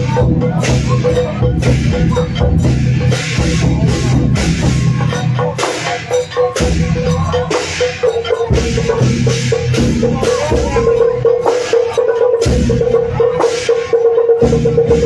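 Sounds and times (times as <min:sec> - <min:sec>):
drums and crashing percussion: 0:00.0 - 0:15.0.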